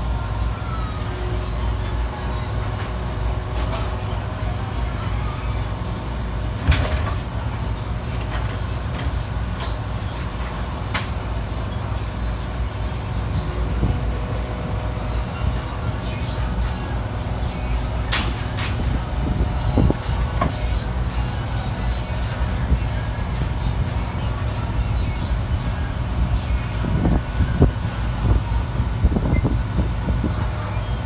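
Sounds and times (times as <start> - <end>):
garbage truck engine running: 0.0 - 31.0.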